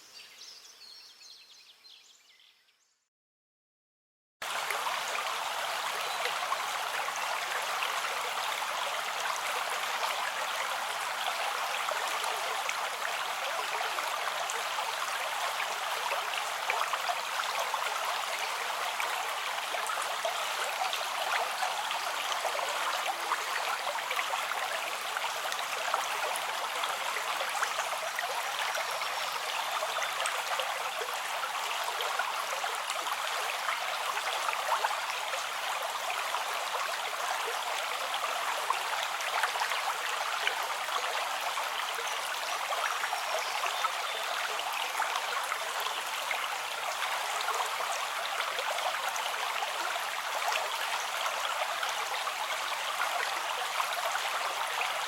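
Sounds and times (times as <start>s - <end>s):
stream flowing: 4.4s - 55.0s.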